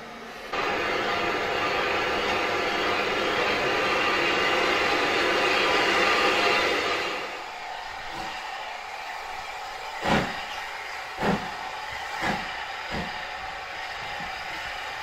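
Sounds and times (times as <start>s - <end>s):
steam locomotive exhaust chuffs: 0.2s - 15.0s.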